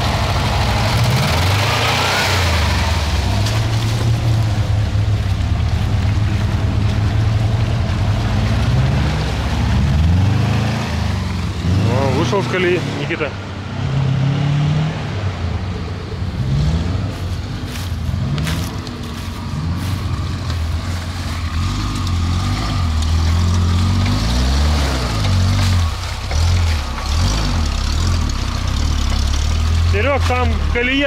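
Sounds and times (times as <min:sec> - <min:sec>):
engine revving: 0:00.0 - 0:15.6, 0:16.2 - 0:31.0.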